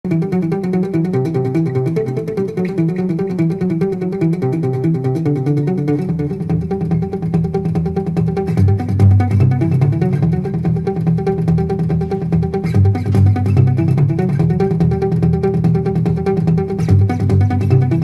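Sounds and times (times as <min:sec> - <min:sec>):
guitar-led background music: 0:00.0 - 0:18.0
bass line: 0:00.1 - 0:18.0.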